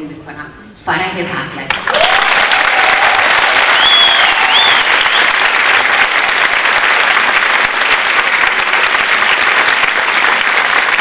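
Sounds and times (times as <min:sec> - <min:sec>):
crowd applauding: 0:01.7 - 0:11.0.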